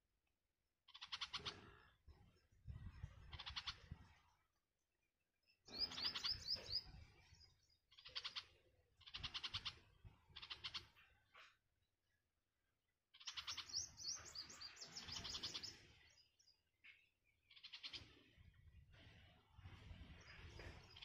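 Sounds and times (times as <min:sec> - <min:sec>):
songbirds chattering: 0:00.8 - 0:04.5, 0:05.5 - 0:21.0.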